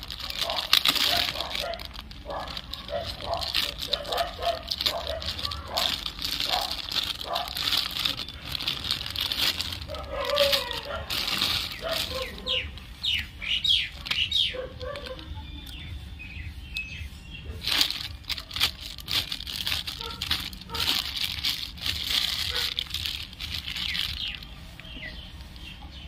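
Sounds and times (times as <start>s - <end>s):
plastic bag crinkling: 0.0s - 15.8s, 17.5s - 25.7s.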